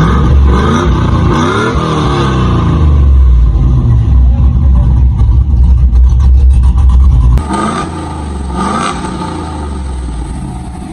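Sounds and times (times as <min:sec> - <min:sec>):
car exhaust rumbling: 0:00.0 - 0:10.9.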